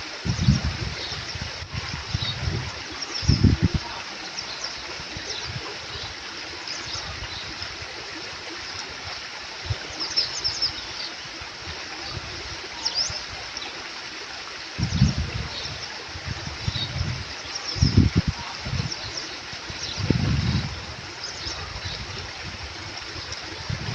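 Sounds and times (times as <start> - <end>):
stream trickling: 0.0 - 23.9.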